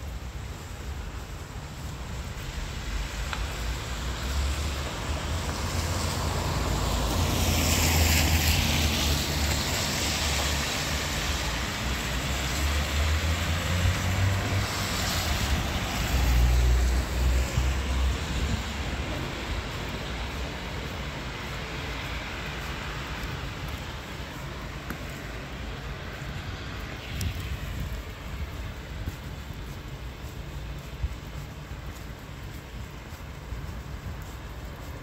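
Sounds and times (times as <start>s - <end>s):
car tyres hissing on wet road: 0.0s - 35.0s
low rumble of engines: 0.0s - 35.0s
wind: 0.0s - 35.0s.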